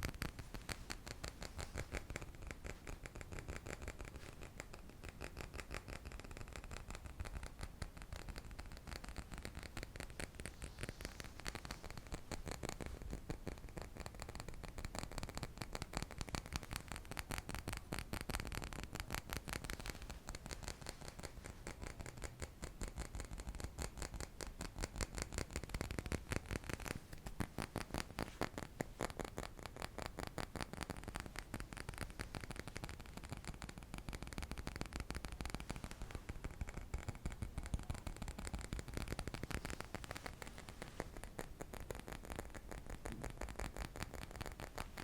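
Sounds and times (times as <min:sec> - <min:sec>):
rapid light tapping: 0:00.0 - 0:45.0.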